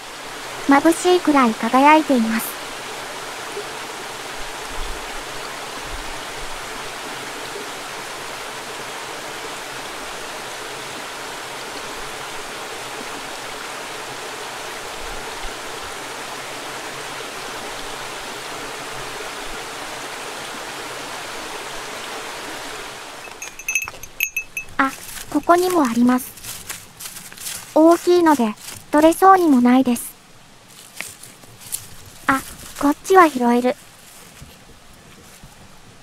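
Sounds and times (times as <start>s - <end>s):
water rushing over rocks: 0.0s - 30.2s.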